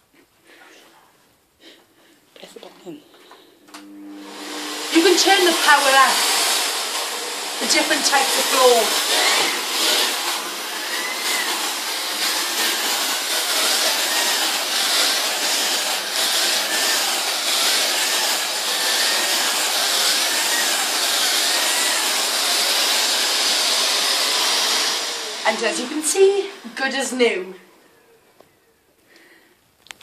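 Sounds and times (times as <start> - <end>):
vacuum cleaner running: 3.6 - 28.3.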